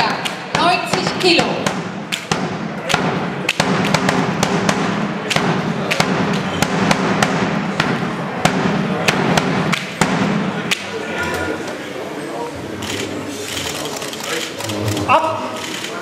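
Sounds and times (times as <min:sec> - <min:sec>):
low hum of hall: 0:00.0 - 0:16.0.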